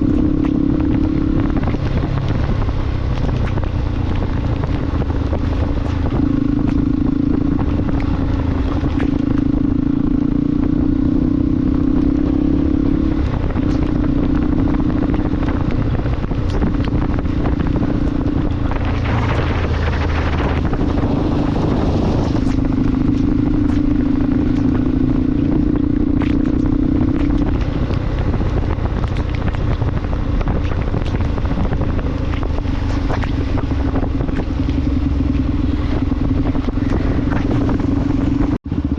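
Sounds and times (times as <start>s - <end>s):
motorcycle engine running: 0.0s - 38.9s
rush of noise: 0.0s - 38.9s
wind and road noise: 0.0s - 38.9s.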